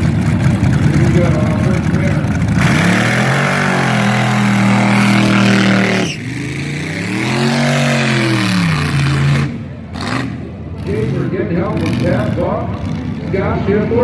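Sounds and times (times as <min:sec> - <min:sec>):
dragster engine revving: 0:00.0 - 0:14.0.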